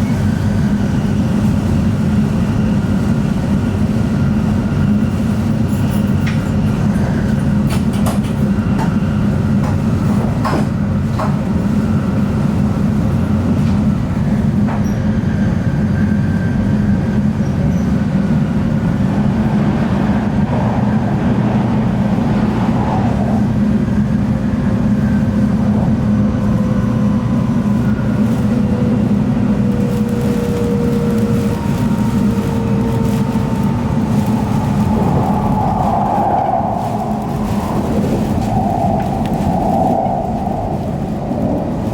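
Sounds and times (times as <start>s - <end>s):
train rumble inside cabin: 0.0s - 41.9s.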